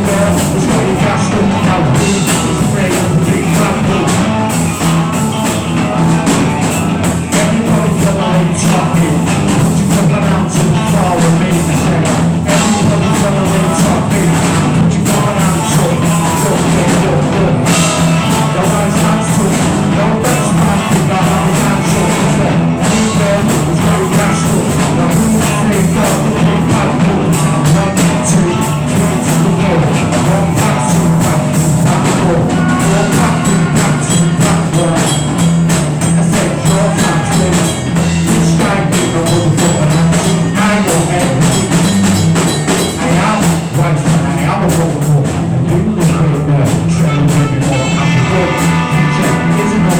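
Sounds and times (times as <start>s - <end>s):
loud rock band jam: 0.0s - 49.9s.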